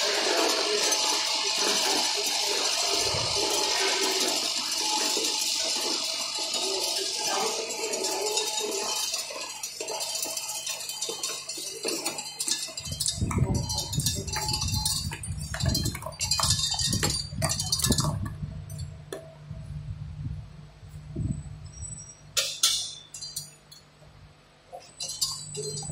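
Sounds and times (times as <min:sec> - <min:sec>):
low machine hum: 0:00.1 - 0:10.2, 0:10.9 - 0:25.9.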